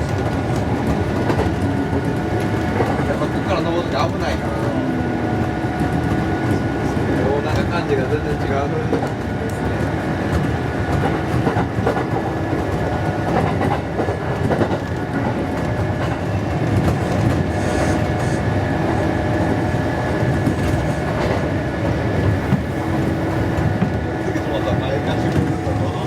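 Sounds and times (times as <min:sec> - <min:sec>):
electric train running: 0:00.0 - 0:26.0.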